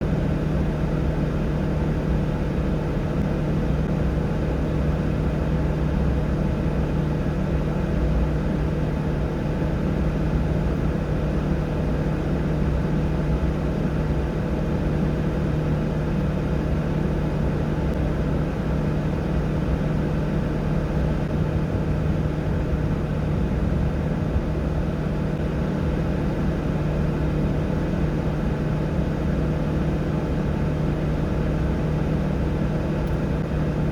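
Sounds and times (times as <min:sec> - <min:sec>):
engine running with low hum: 0:00.0 - 0:33.9.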